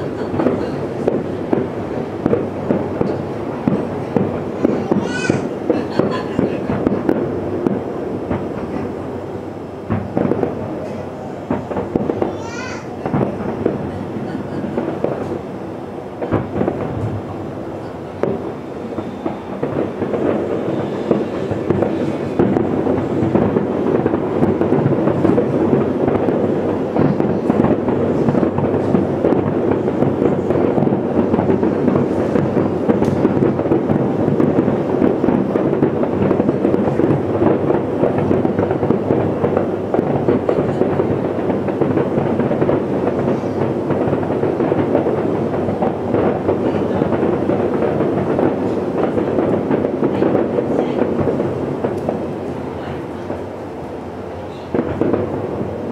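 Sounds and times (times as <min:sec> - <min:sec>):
firework shells bursting: 0:00.0 - 0:55.9.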